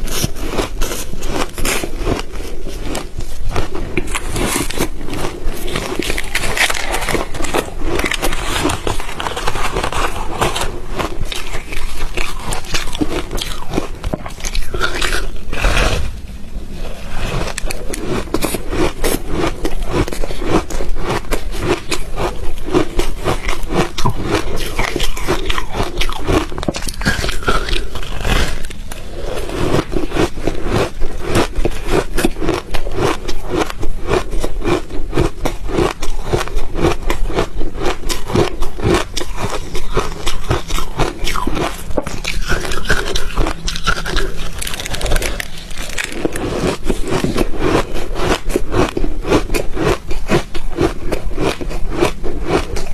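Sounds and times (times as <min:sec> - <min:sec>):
ice being chewed: 0:00.0 - 0:52.9.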